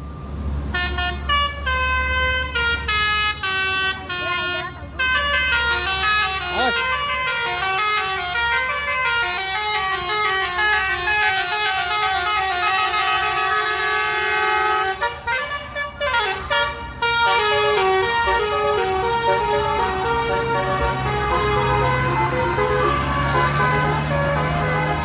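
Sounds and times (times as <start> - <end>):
trumpet horns playing a melody: 0.8 - 25.0.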